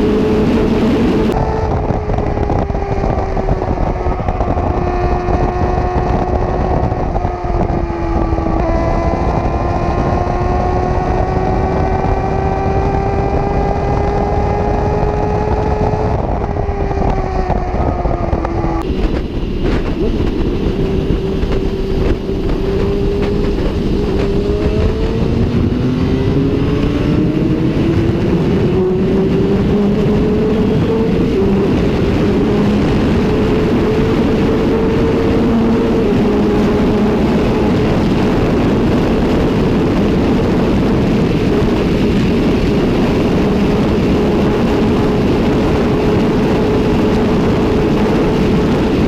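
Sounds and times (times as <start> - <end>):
motorcycle engine at speed: 0.0 - 49.0
wind noise: 0.0 - 49.0.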